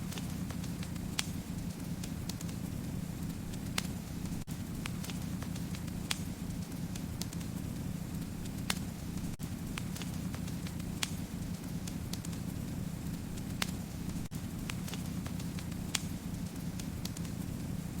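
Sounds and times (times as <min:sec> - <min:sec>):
fire popping and snapping: 0:00.0 - 0:18.0
low rumble of burning: 0:00.0 - 0:18.0.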